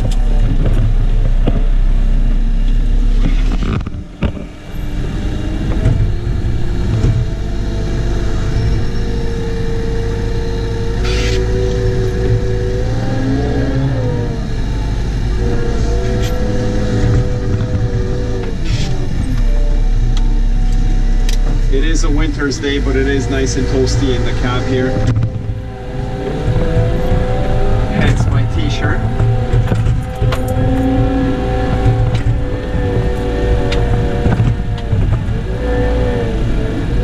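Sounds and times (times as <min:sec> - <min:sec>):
steady whine bending in pitch: 0:00.0 - 0:37.0
wheel loader diesel engine: 0:00.0 - 0:37.0.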